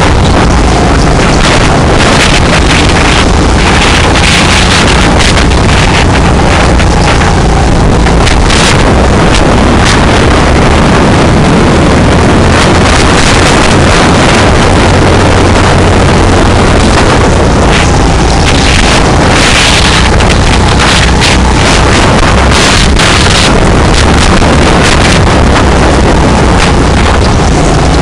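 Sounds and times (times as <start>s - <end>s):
go-kart engine running hard: 0.0s - 28.0s
wind rushing over microphone: 0.0s - 28.0s.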